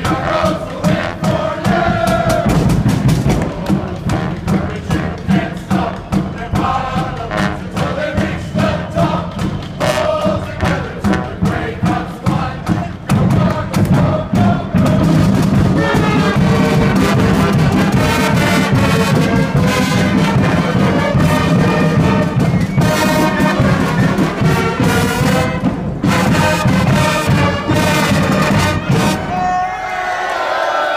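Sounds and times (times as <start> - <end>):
brass band playing: 0.0 - 29.8.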